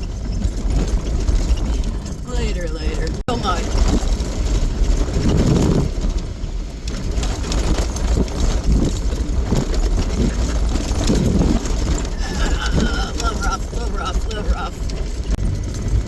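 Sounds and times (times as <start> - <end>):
off-road vehicle engine rumbling: 0.0 - 16.0.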